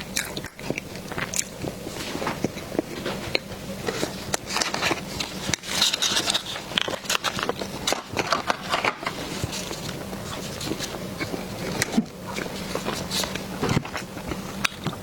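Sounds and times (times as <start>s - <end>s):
person chewing pastry: 0.0s - 15.0s.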